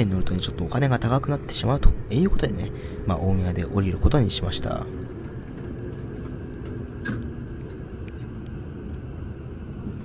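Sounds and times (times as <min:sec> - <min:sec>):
train rumble inside cabin: 0:00.0 - 0:10.0.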